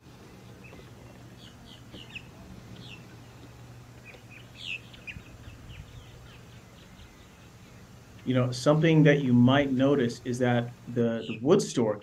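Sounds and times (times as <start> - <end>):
faint low hum: 0.0 - 12.0
small birds chirping: 0.0 - 12.0.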